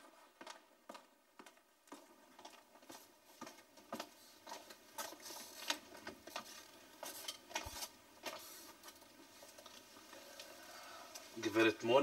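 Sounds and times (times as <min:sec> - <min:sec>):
footsteps on a hard floor: 0:00.0 - 0:09.6.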